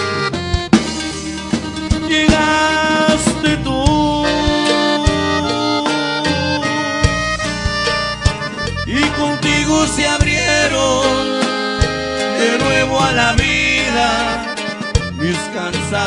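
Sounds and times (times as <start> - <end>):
button accordion melody: 0.0 - 16.0
drum kit: 0.0 - 16.0
electric bass: 0.0 - 16.0
guitar strumming: 0.0 - 16.0.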